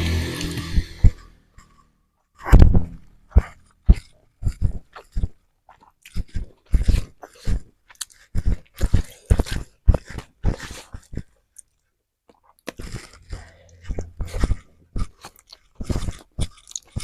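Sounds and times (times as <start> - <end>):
chewing and smacking: 3.3 - 17.0.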